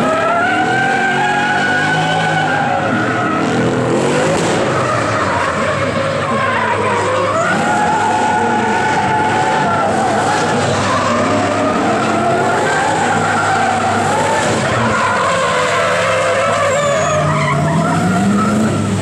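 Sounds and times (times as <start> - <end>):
car engine revving high: 0.0 - 19.0
tyres screeching: 0.0 - 19.0.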